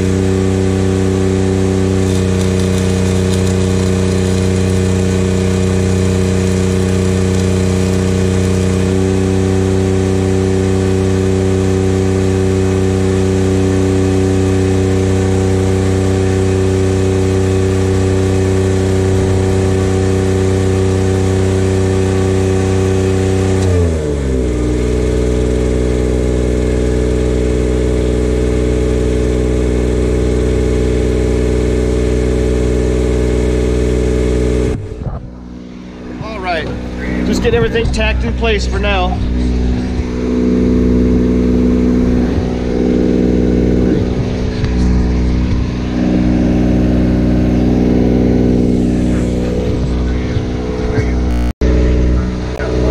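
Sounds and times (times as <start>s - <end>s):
engine running: 0.0s - 52.9s.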